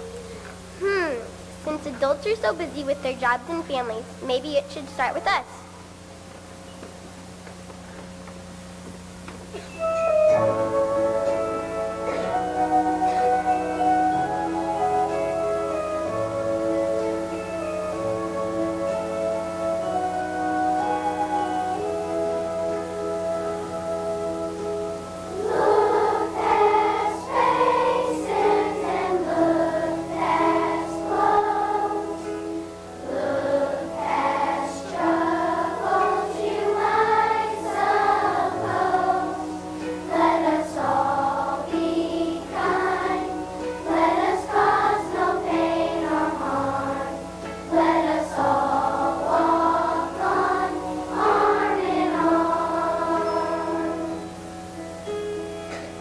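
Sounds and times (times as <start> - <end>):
instrumental accompaniment: 9.3 - 56.0
children's choir singing: 10.0 - 54.9.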